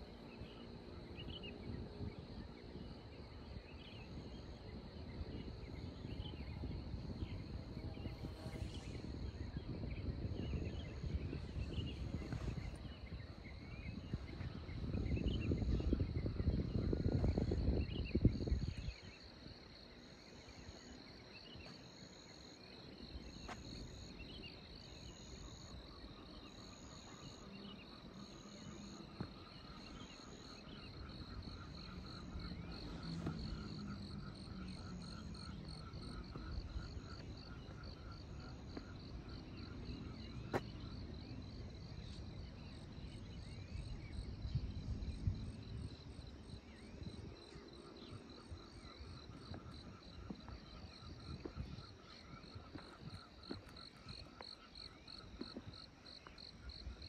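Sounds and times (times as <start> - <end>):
higher pulsing insect call: 0.0 - 57.0
insects chirring: 0.0 - 57.0
lower pulsing insect call: 0.0 - 57.0.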